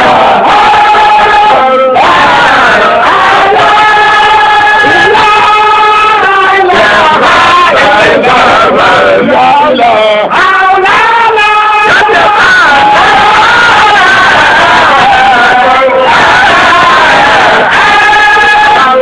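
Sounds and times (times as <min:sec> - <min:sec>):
group of voices chanting: 0:00.0 - 0:19.0.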